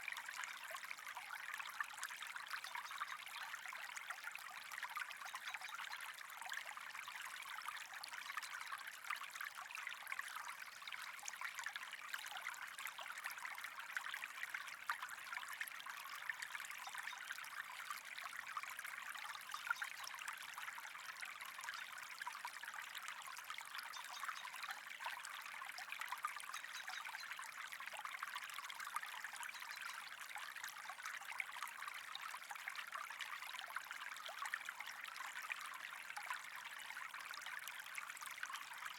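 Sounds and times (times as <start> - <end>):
water trickling and flowing: 0.0 - 38.9.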